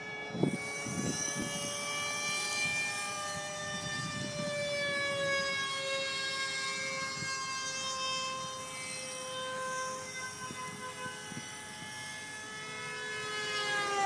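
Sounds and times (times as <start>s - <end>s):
rc helicopter motor whining: 0.0s - 14.0s.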